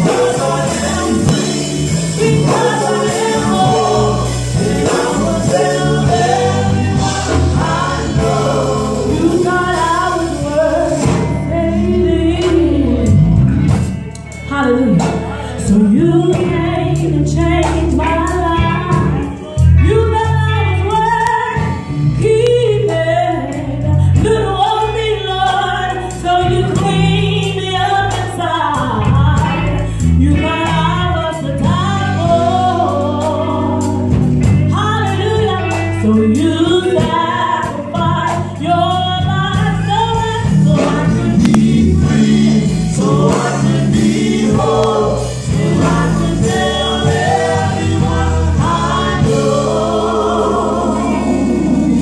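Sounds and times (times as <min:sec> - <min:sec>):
women singing gospel: 0:00.0 - 0:13.4, 0:14.4 - 0:52.0
electric bass: 0:00.0 - 0:52.0
electric guitar: 0:00.0 - 0:52.0.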